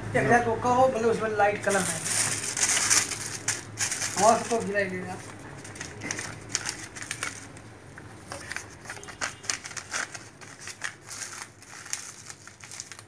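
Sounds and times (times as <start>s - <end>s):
plastic packet crinkling: 1.6s - 7.6s, 8.3s - 13.0s.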